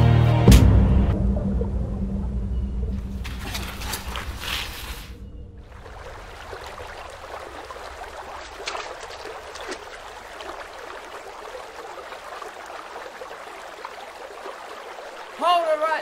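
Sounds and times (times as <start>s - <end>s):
water splashes: 1.0s - 16.0s
water trickling through pipe: 1.2s - 16.0s.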